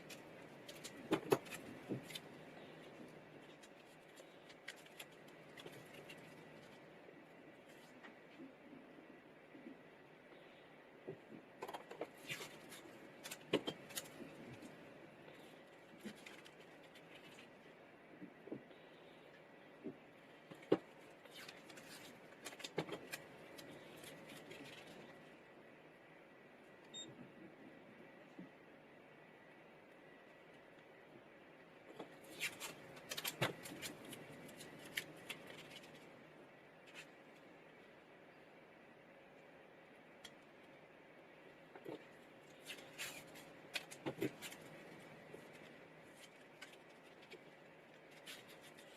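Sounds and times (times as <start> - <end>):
faint steady hum: 0.0 - 48.9.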